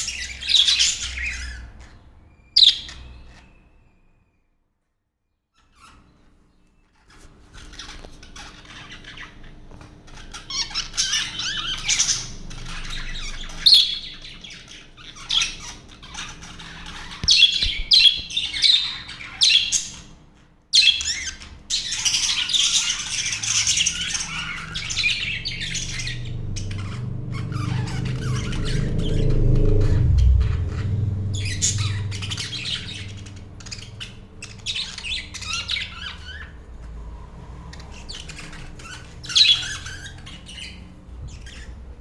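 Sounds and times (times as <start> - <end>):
budgerigars chattering and squawking: 0.0 - 3.6, 7.0 - 37.0, 37.7 - 42.0.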